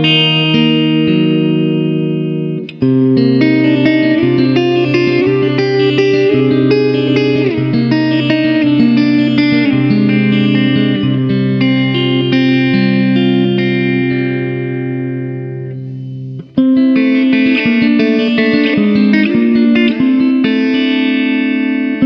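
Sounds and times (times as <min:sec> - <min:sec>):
guitar background music: 0:00.0 - 0:22.0.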